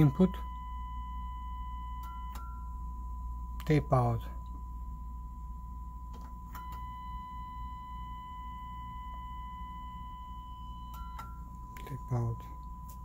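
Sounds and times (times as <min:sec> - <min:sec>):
low hum: 0:00.0 - 0:13.0
steady test tone: 0:00.0 - 0:13.0.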